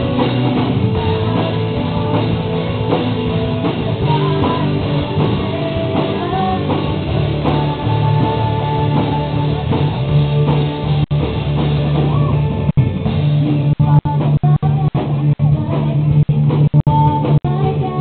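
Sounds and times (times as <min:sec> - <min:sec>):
drum kit: 0:00.0 - 0:18.0
electric guitar: 0:00.0 - 0:18.0.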